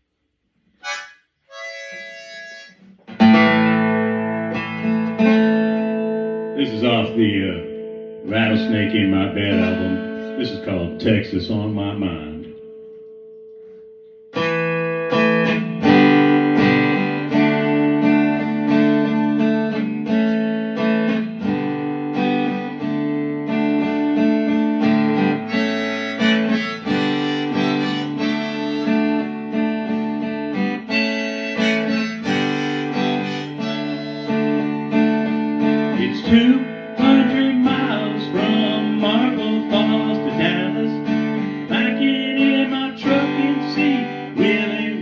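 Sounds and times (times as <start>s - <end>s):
acoustic guitar strumming: 0.7s - 45.0s
harmonica: 0.8s - 11.3s, 14.4s - 21.6s, 24.8s - 45.0s.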